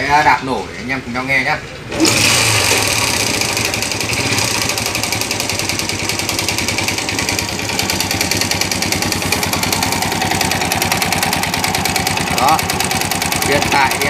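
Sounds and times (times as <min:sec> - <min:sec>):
noisy motorcycle engine running: 0:01.9 - 0:14.0.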